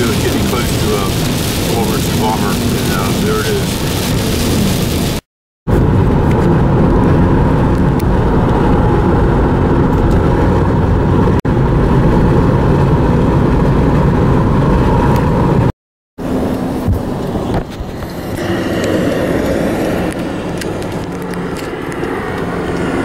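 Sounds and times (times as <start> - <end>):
car road and wind noise: 0.0 - 23.0.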